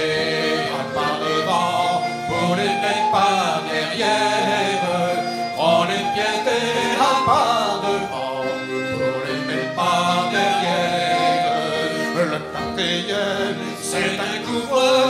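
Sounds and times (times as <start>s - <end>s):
men singing call and response: 0.0s - 15.0s.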